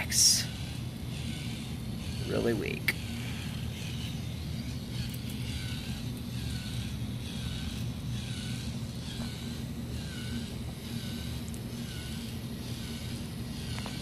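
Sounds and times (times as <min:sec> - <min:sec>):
small toy motor running: 0:00.0 - 0:14.0.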